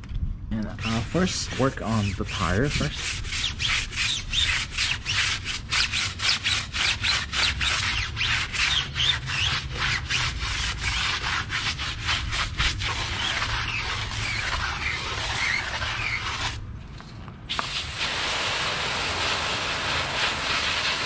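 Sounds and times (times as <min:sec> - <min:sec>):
tyre being scrubbed: 0:00.8 - 0:16.6, 0:19.0 - 0:21.0.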